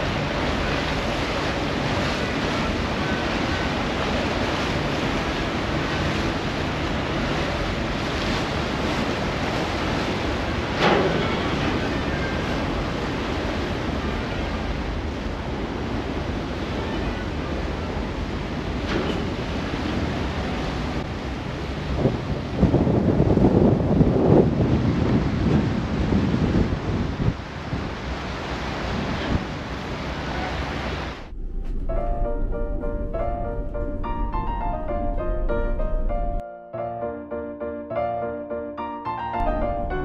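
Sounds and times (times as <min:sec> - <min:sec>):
rushing water of ship wake: 0:00.0 - 0:36.4, 0:39.3 - 0:40.0
wind buffeting microphone: 0:00.0 - 0:36.4.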